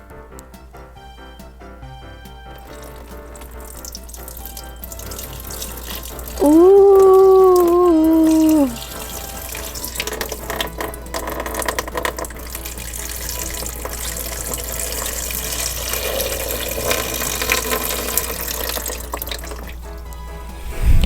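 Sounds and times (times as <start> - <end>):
water running from faucet: 2.4 - 20.2.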